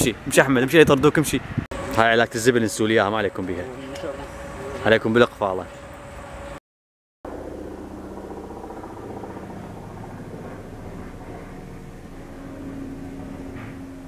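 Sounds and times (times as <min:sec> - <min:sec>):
distant road traffic hum: 0:00.0 - 0:06.6, 0:07.3 - 0:14.0
engine tone: 0:01.7 - 0:06.6, 0:07.3 - 0:14.0.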